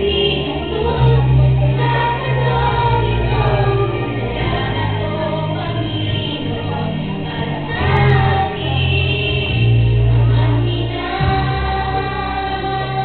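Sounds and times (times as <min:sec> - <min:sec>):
children singing: 0:00.0 - 0:13.0
instrumental accompaniment: 0:00.0 - 0:13.0.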